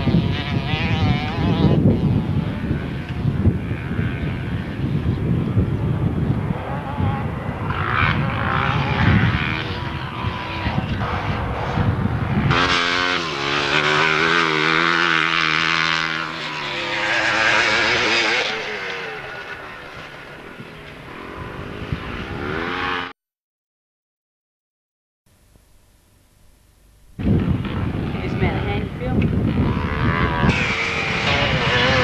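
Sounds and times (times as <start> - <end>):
dirt bike engine revving: 0.0 - 23.2, 27.2 - 32.0.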